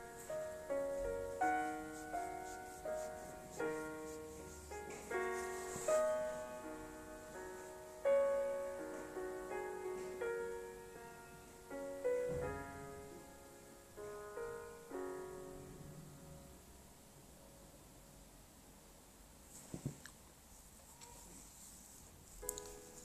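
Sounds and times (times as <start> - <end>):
slow solo piano: 0.0 - 18.4, 20.8 - 23.0.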